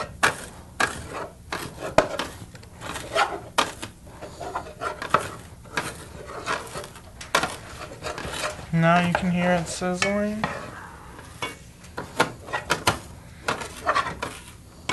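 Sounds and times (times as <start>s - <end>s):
spatula scraping frying pan: 0.0s - 14.9s.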